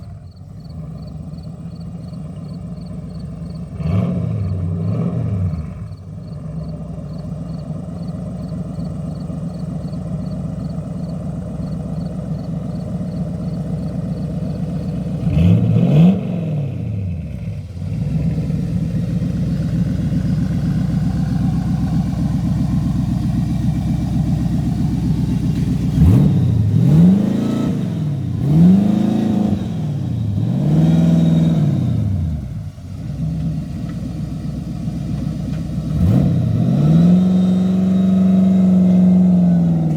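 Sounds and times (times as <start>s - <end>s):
engine revving: 0.0s - 8.2s, 8.8s - 39.9s
car engine running: 0.0s - 39.9s.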